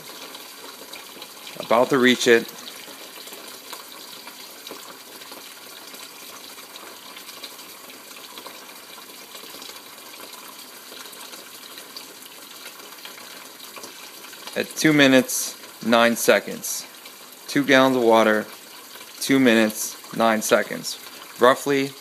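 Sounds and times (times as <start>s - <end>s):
faucet water pouring into bucket: 0.0s - 22.0s.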